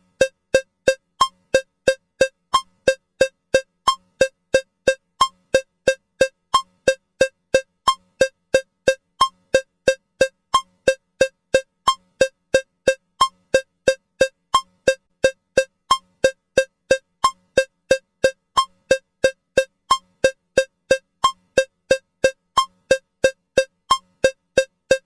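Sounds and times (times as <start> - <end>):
cowbell metronome clicking: 0.0 - 25.0.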